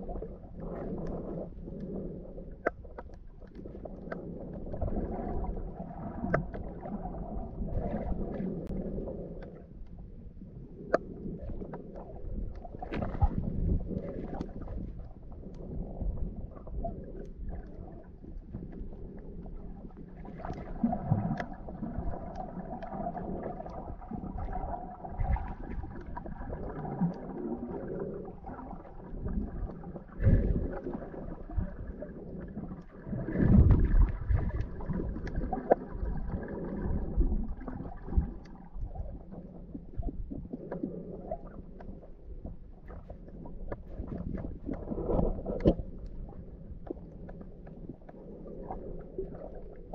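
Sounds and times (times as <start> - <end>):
muffled underwater churning: 0.0 - 49.9.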